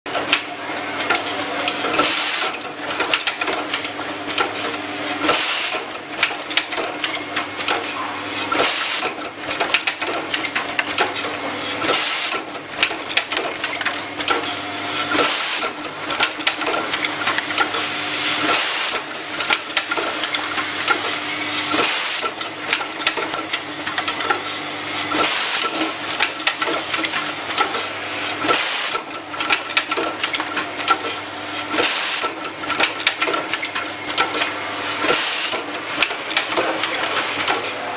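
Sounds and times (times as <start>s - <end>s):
rapid mechanical clicks: 0.1s - 14.5s, 15.1s - 17.8s, 21.7s - 24.5s, 25.1s - 37.8s.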